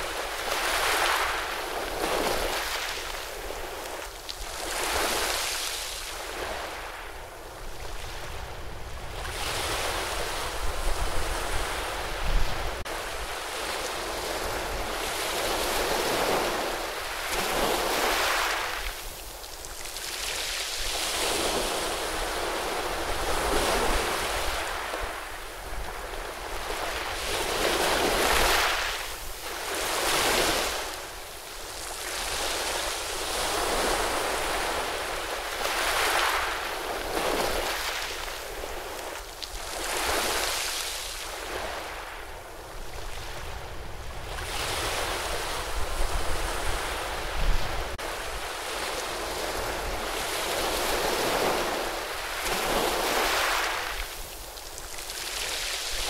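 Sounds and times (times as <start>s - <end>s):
ocean waves breaking over rocks: 9.0s - 56.0s.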